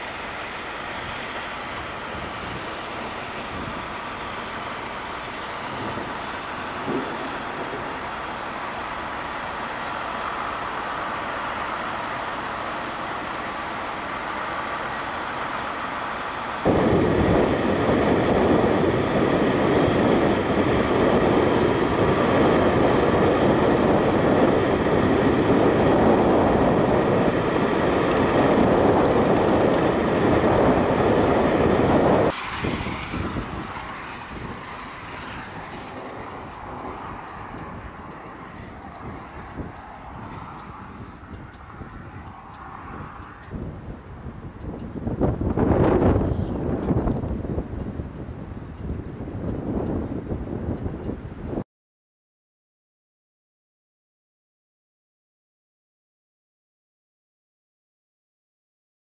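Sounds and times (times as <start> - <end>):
gusting wind buffeting microphone: 0.0 - 51.6
traffic: 0.0 - 51.6
wind noise: 0.0 - 51.6.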